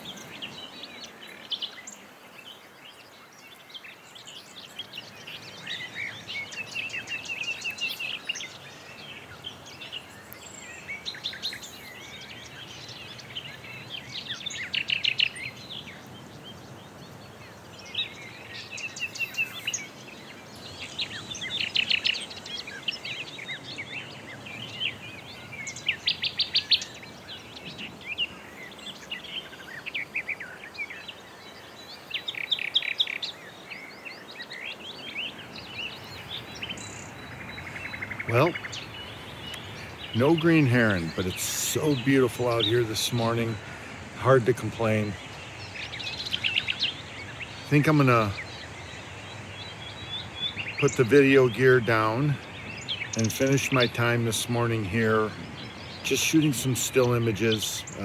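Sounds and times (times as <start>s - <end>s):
faint outdoor background noise: 0.0s - 58.0s
songbirds trilling and chirping: 0.0s - 58.0s.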